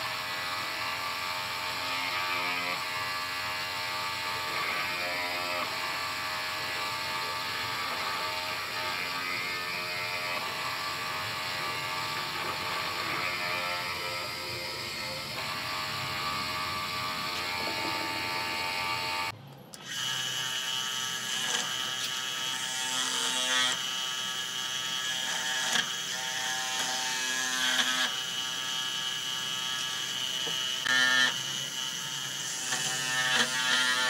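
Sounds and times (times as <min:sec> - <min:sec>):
electric motor whine: 0:00.0 - 0:34.0.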